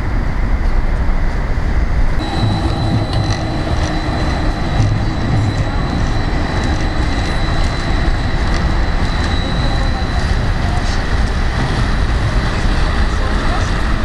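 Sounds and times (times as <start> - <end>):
high whine: 0.0 - 14.0
tram running rumble: 0.0 - 14.0.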